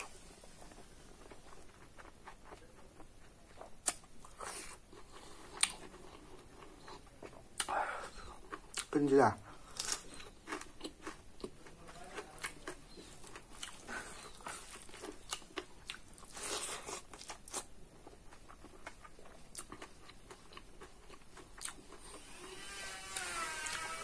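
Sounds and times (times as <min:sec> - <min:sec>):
chewing food: 0:00.0 - 0:22.2.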